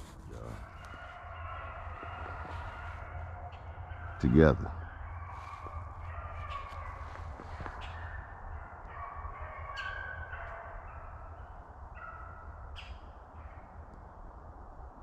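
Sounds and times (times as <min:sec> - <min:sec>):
hounds baying: 0:00.3 - 0:13.8.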